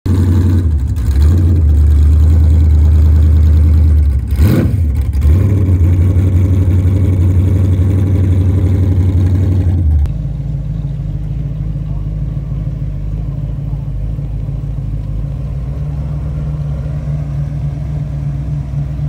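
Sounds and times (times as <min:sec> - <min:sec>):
car engine idling loudly: 0:00.1 - 0:19.0.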